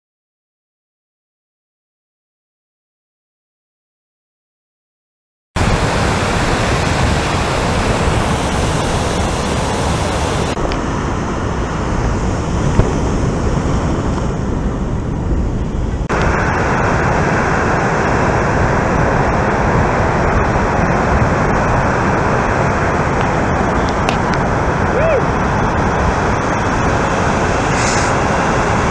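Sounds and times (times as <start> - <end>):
heavy waves roaring: 5.6 - 28.9.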